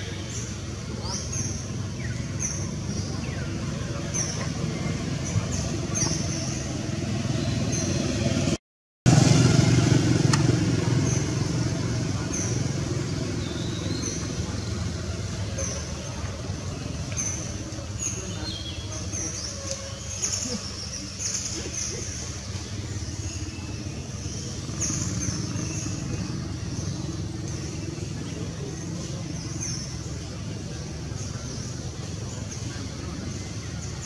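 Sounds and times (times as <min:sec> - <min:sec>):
traffic rumble: 0:00.0 - 0:34.0.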